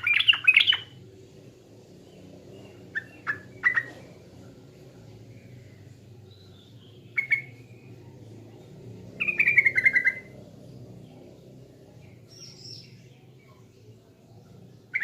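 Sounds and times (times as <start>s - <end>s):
bulbul singing: 0.0s - 15.0s
faint low hum: 0.0s - 15.0s.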